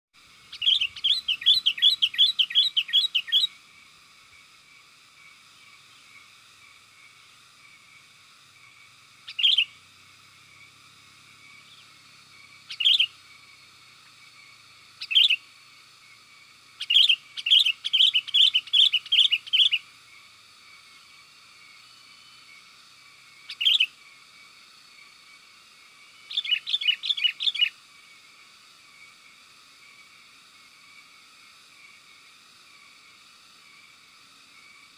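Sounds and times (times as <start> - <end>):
faint steady hiss: 0.2 - 34.9.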